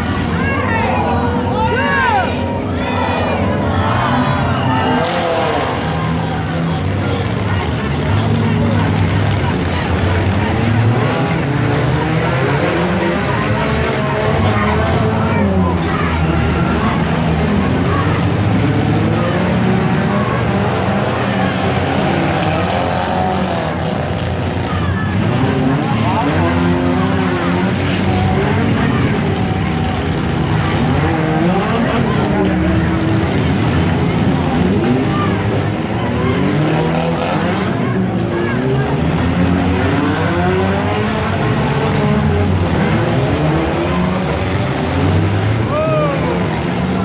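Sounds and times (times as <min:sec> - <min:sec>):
car engines revving: 0:00.0 - 0:47.0.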